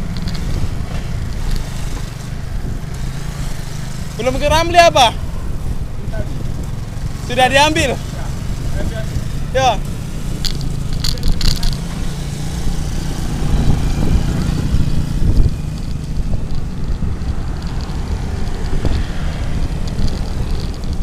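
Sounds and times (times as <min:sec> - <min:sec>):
motorcycles riding by: 0:00.0 - 0:21.0
road noise: 0:00.0 - 0:21.0
wind buffeting microphone: 0:00.0 - 0:21.0.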